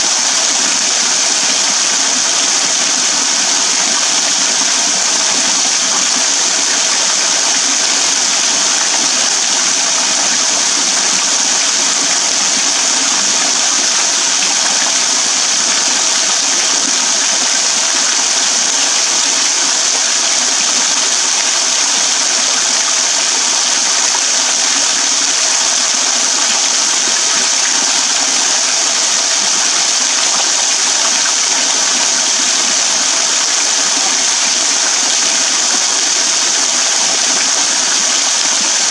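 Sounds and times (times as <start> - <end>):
small waterfall splashing into puddle: 0.2 - 38.9.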